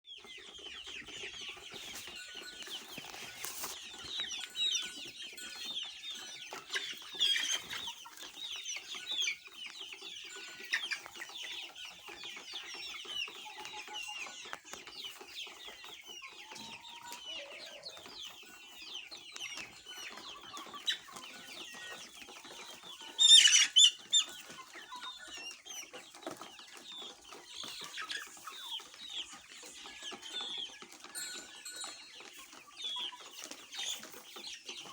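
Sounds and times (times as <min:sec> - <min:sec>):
chickens clucking and calling: 0:00.0 - 0:34.9.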